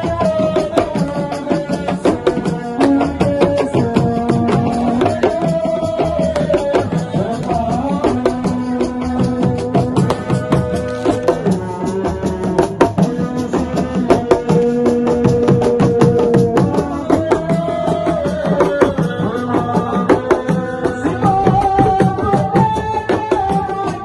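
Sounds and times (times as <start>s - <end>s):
fast hand drums: 0.0s - 24.0s.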